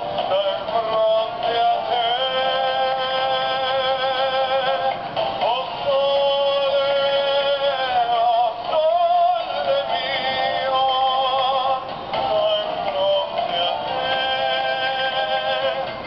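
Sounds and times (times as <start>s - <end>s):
toy singing voice over melody: 0.1s - 16.0s.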